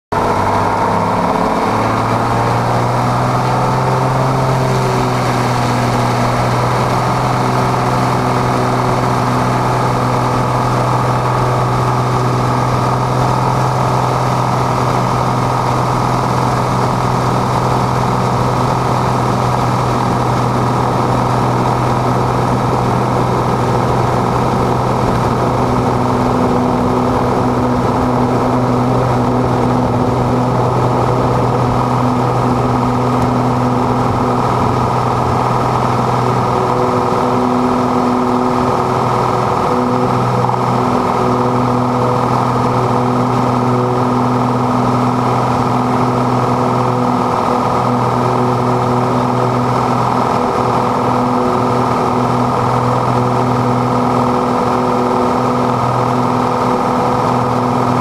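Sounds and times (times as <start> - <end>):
aircraft piston engine and propeller: 0.1 - 58.0.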